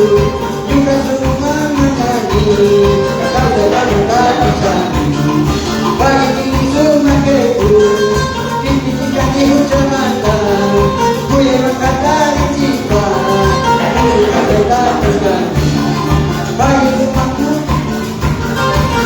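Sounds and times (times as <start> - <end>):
tambourine or shaker percussion: 0.0 - 19.0
worship band music: 0.0 - 19.0.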